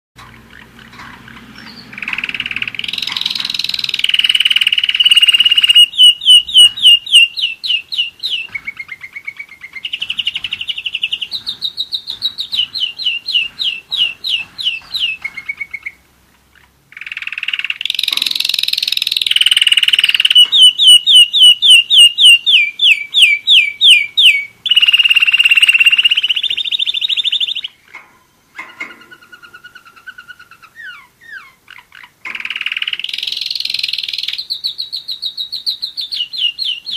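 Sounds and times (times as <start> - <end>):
canary singing trills: 0.2 - 36.9.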